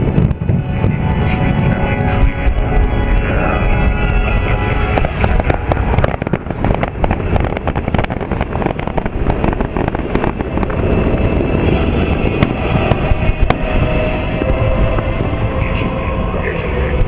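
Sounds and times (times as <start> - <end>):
fireworks cracks and bangs: 0.0 - 14.6
low rumble: 0.0 - 17.0.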